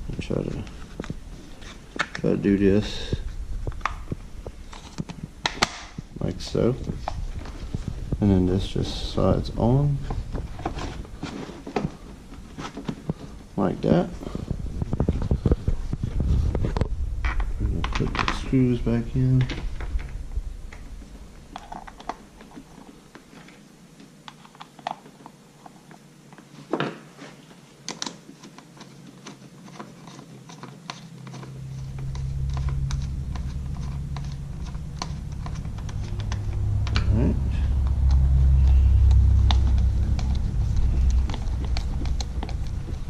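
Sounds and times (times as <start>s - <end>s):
low rumble: 0.0s - 23.1s, 31.1s - 43.0s.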